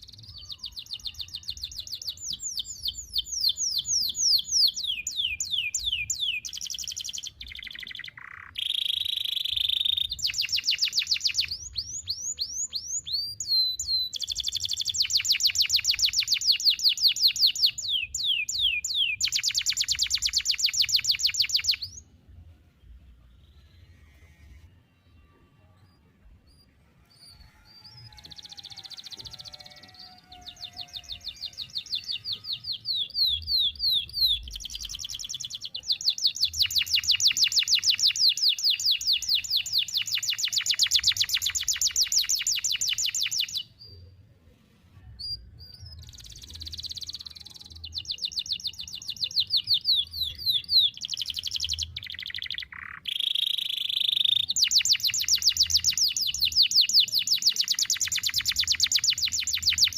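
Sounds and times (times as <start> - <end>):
canary singing trills: 0.0 - 22.2, 22.8 - 44.2, 45.0 - 59.9.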